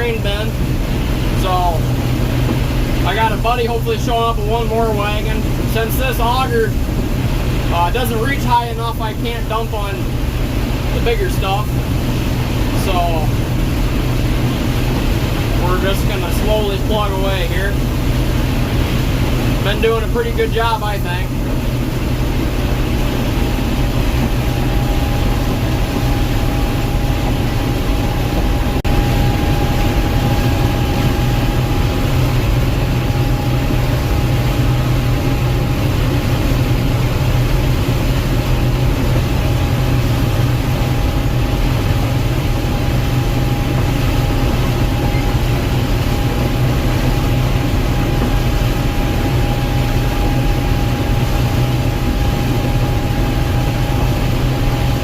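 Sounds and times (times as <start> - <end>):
combine engine drone: 0.0 - 55.0
thin steady whine: 0.0 - 55.0.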